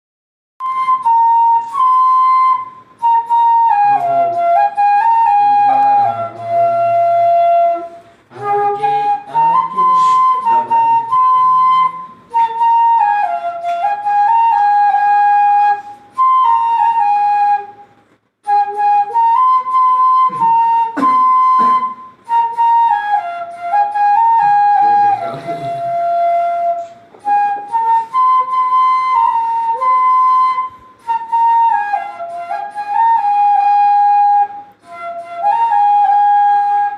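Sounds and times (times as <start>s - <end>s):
bamboo flute melody: 0.6s - 36.9s.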